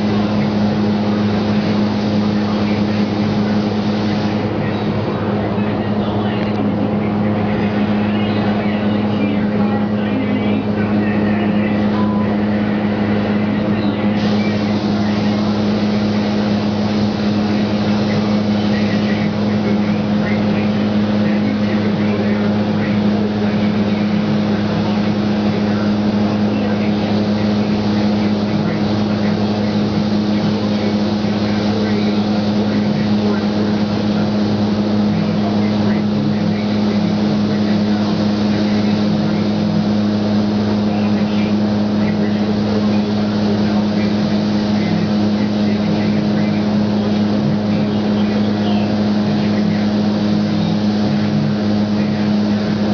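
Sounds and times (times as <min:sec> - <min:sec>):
spray gun hissing: 0:00.0 - 0:04.7, 0:10.8 - 0:52.9
air handling hum: 0:00.0 - 0:52.9.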